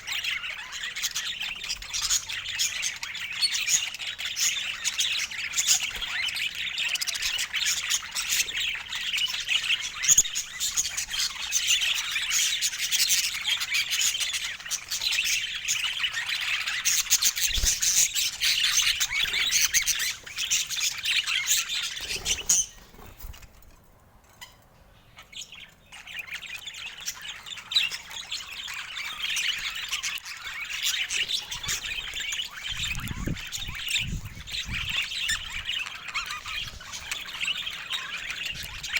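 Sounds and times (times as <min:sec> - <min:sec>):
budgerigars chattering: 0:00.0 - 0:23.1, 0:25.2 - 0:38.9.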